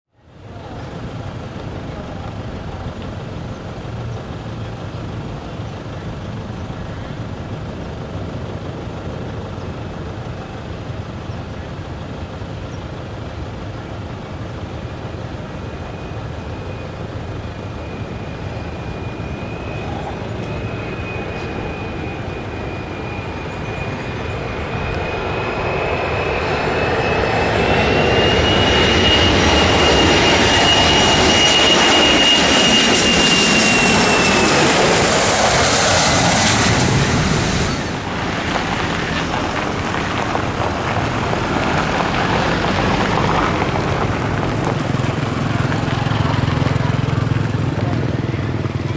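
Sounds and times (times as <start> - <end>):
jet engine high whine: 0.2 - 48.9
jet engine rumble: 0.3 - 48.9.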